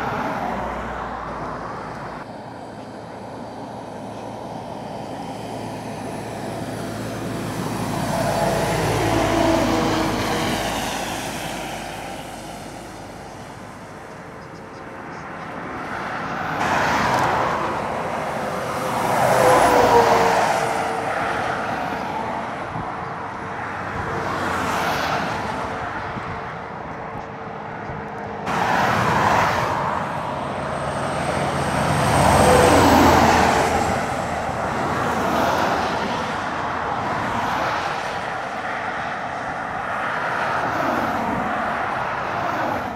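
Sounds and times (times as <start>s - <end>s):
heavy trucks climbing uphill: 0.0s - 42.9s
truck tyres on road: 0.0s - 42.9s.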